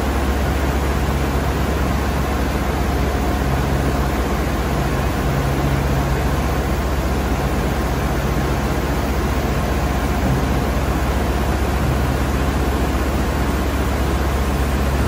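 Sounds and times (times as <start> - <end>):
machine low hum: 0.0 - 15.0.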